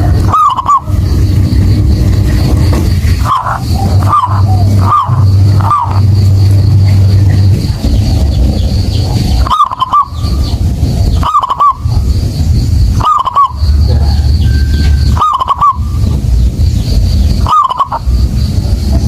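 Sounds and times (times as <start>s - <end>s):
dove cooing: 0.0s - 12.2s, 12.9s - 16.2s, 17.3s - 18.2s
steady low rumble: 0.0s - 19.0s.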